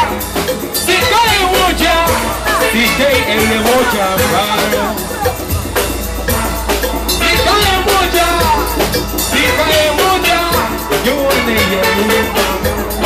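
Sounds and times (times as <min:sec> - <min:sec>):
person singing: 0:00.0 - 0:05.5, 0:07.2 - 0:13.0
drums and percussion beat: 0:00.0 - 0:13.0
steel pans playing a tune: 0:00.0 - 0:13.0.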